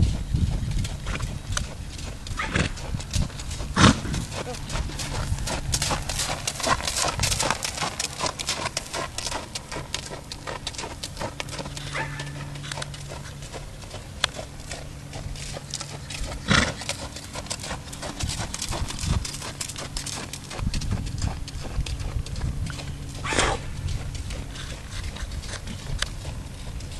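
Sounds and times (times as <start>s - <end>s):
hoofbeats on sand: 0.0s - 26.9s.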